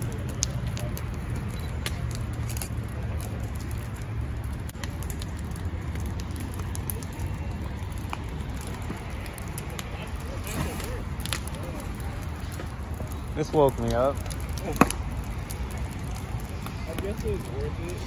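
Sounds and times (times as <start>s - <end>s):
large fire crackling and popping: 0.0s - 18.0s
low fire rumble: 0.0s - 18.0s.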